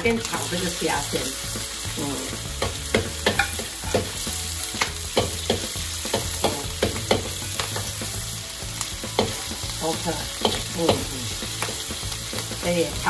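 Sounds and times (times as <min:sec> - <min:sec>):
prawns sizzling in a wok: 0:00.0 - 0:13.0
metal spatula scraping wok: 0:00.1 - 0:12.7.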